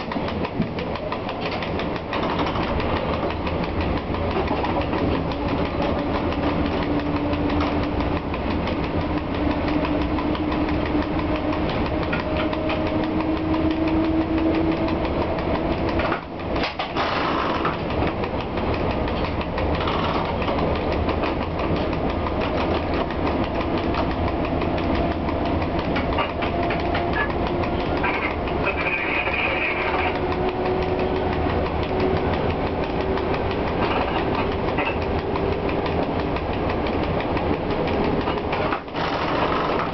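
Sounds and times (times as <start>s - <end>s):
locomotive motor hum rising: 0.0s - 39.9s
rumble of train wheels: 0.0s - 39.9s.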